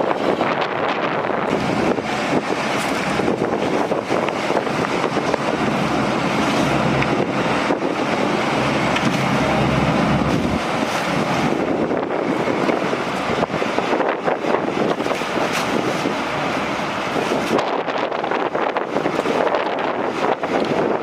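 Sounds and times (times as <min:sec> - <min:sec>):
deep rumble: 0:00.0 - 0:21.0
strong gusty wind on microphone: 0:00.0 - 0:21.0.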